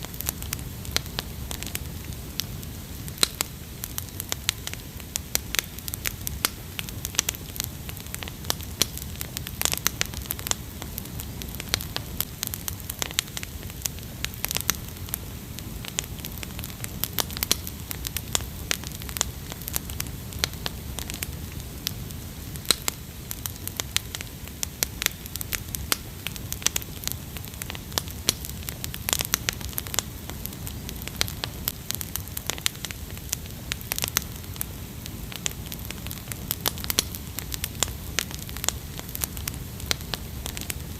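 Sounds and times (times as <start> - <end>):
low rumble of fire: 0.0 - 40.9
wood fire pops and snaps: 0.0 - 40.9.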